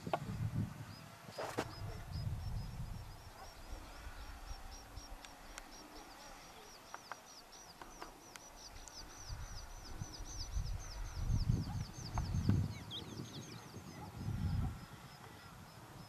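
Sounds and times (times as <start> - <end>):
wind rumble on microphone: 0.0 - 5.7, 8.7 - 16.0.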